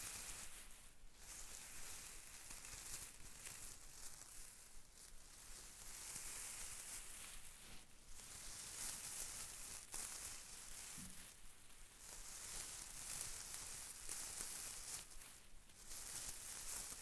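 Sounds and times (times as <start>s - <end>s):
crinkly rustling: 2.8s - 17.0s.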